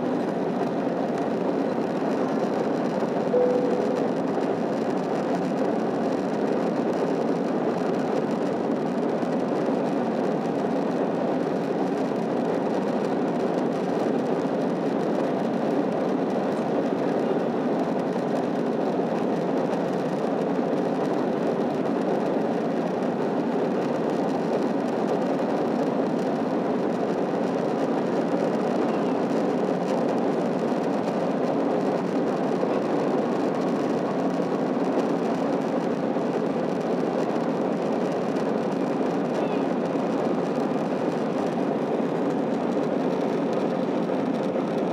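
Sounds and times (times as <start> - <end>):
airliner cabin engine noise: 0.0 - 44.9.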